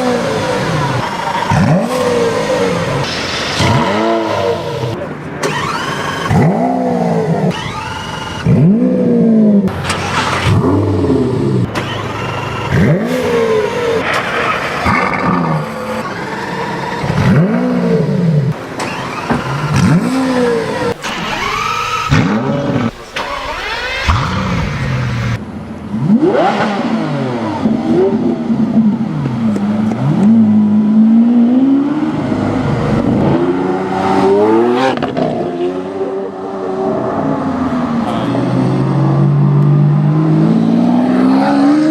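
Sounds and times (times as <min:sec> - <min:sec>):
car accelerating: 0:00.0 - 0:41.9
car engine revving: 0:00.0 - 0:41.9.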